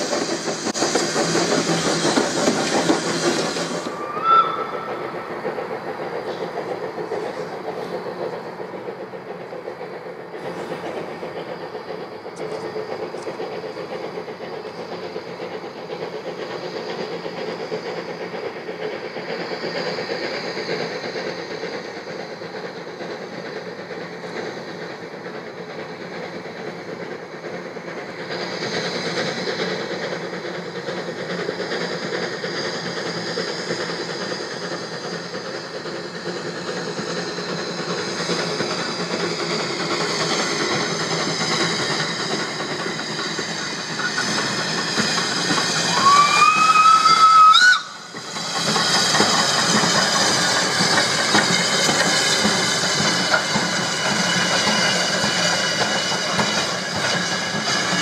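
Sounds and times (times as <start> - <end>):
steam hiss: 0.0 - 58.0
steam locomotive rumbling: 0.0 - 58.0.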